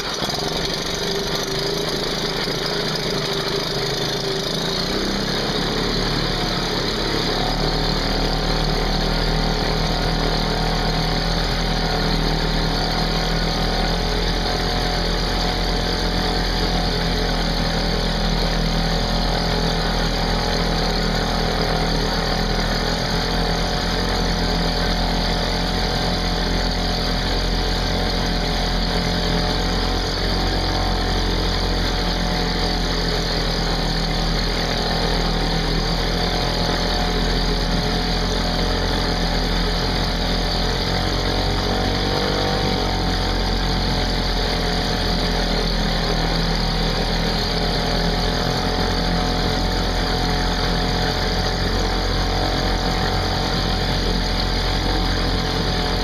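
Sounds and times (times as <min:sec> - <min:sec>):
outboard motor running: 0:00.0 - 0:56.0
propeller churning water: 0:00.0 - 0:56.0.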